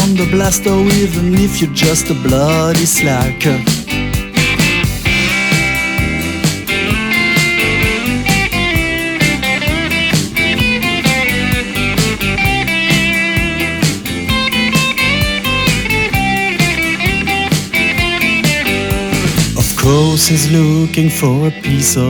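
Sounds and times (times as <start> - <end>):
instrumental rock music: 0.0 - 22.0.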